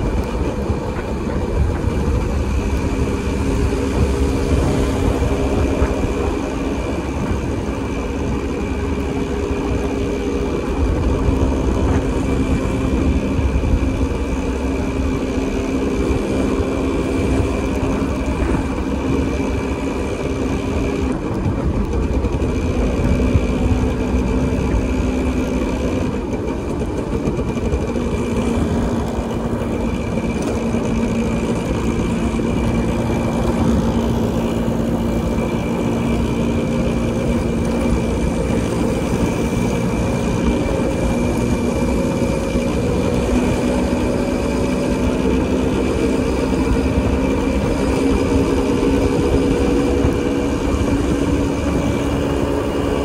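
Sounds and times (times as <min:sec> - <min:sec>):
motorcycle engine running: 0:00.0 - 0:53.0
road and traffic rumble: 0:00.0 - 0:53.0.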